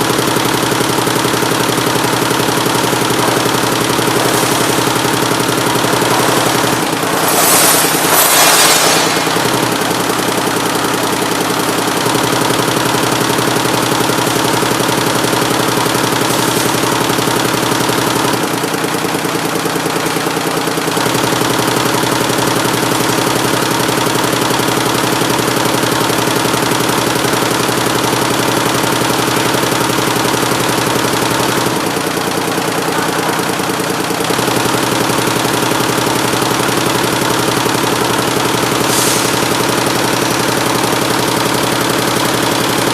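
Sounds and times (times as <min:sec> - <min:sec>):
embroidery machine clattering: 0:00.0 - 0:42.9.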